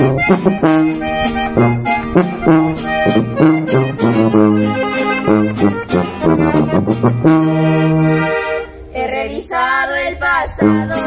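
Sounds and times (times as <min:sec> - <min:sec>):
strummed acoustic guitar: 0:00.0 - 0:08.9
accordion melody: 0:00.0 - 0:11.0
tuba bass notes: 0:00.0 - 0:11.0.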